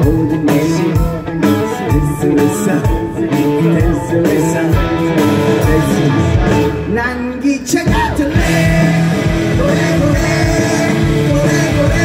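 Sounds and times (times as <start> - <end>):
bass guitar: 0.0 - 12.0
drums: 0.0 - 12.0
electric guitar: 0.0 - 12.0.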